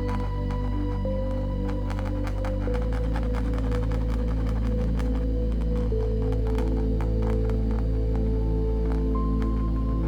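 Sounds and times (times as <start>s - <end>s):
ambient music with low tones: 0.0s - 10.0s.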